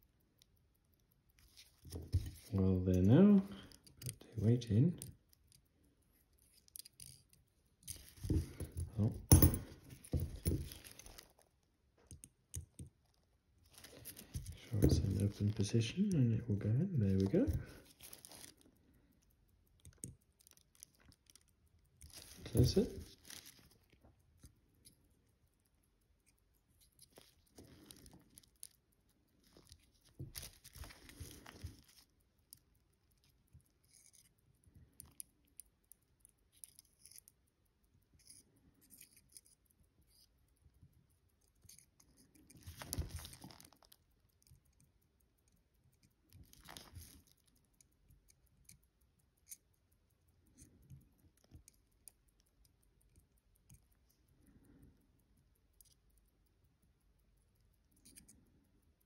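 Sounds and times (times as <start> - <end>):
faint rustles and small clicks: 0.0 - 59.0.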